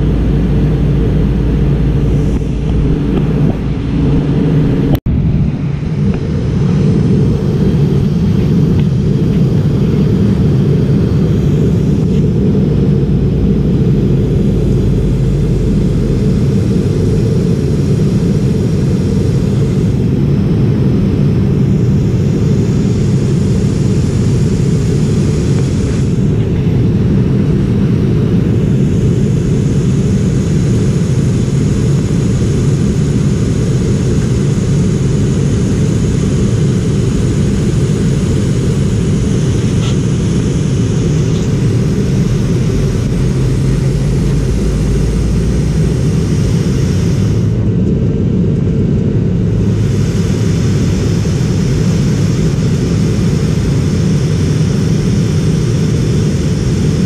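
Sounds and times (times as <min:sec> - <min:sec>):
air rushing past fuselage: 0:00.0 - 0:48.0
airliner cabin drone: 0:00.0 - 0:57.0.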